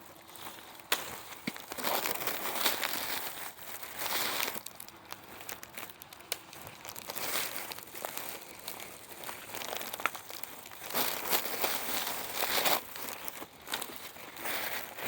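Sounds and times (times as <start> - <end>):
bag crinkling and rustling: 0.0 - 15.0.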